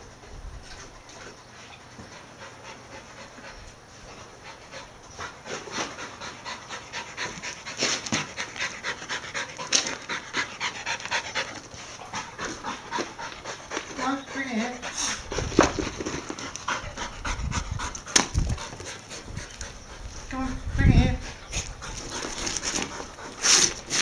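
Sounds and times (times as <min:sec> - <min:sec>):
dog panting: 0:00.8 - 0:24.0.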